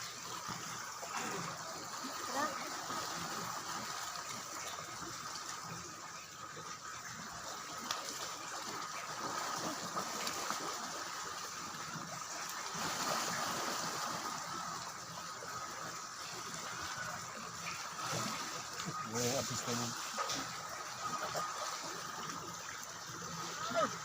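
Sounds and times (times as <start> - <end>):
water rushing and trickling: 0.0 - 24.0.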